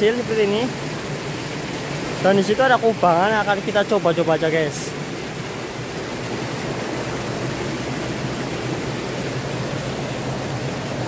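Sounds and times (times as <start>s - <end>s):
stream water over rocks: 0.0s - 11.0s.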